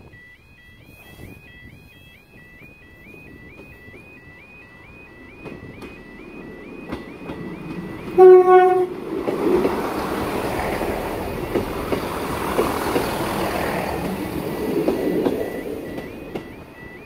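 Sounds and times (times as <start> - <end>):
level crossing warbling alarm: 0.0 - 17.0
train rolling past: 1.0 - 17.0
wheels clicking over rail joints: 2.6 - 17.0.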